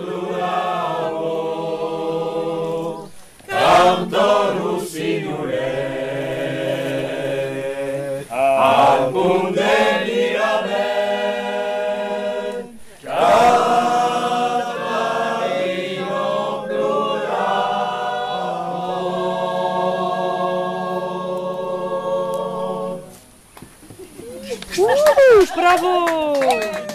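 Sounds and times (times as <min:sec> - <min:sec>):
group of voices singing a cappella: 0:00.0 - 0:23.4.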